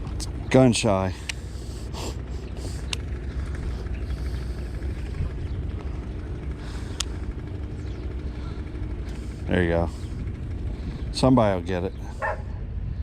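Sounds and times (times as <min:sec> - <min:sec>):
low rumble with faint hum: 0:00.0 - 0:13.0.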